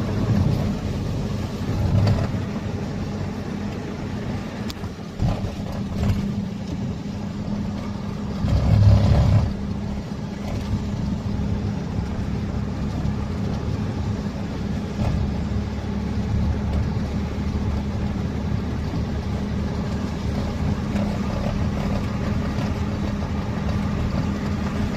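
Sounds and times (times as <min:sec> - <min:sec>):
vehicle engine running: 0:00.0 - 0:24.9.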